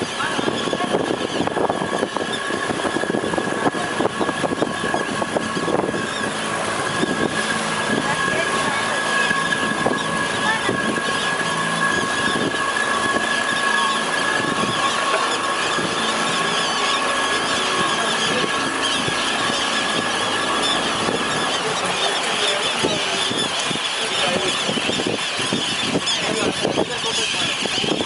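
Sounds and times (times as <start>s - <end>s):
motorboat engine whining: 0.0s - 28.0s
water lapping against hull: 0.0s - 28.0s.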